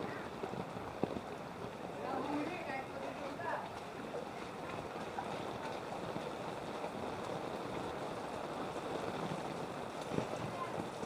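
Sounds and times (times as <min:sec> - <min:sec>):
flood water rushing and sloshing: 0:00.0 - 0:11.0.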